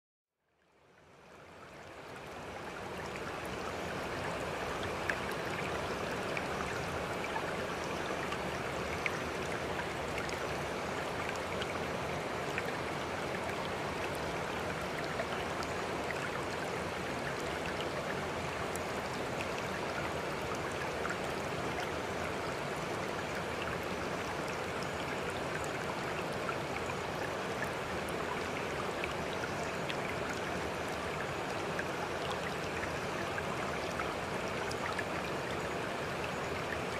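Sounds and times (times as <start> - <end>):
rushing trickling water: 0.6 - 36.9.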